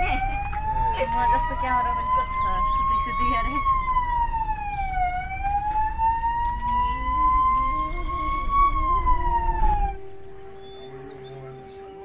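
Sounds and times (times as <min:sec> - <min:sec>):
engine and road rumble: 0:00.0 - 0:12.0
siren wailing: 0:00.0 - 0:12.0.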